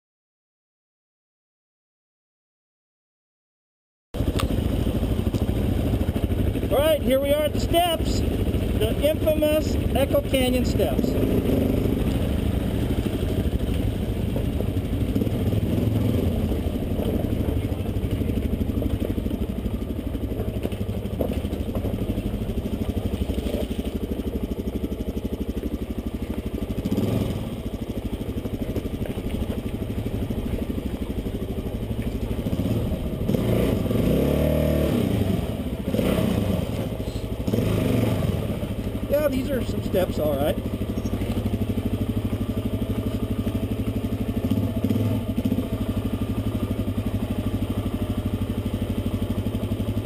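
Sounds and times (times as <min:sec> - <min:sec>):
dirt bike engine revving: 0:04.2 - 0:50.0.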